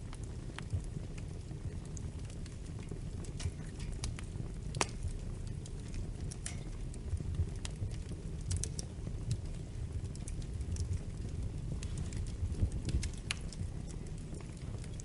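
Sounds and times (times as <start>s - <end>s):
low steady rumble: 0.0s - 15.0s
wood fire crackling and popping: 0.0s - 15.0s.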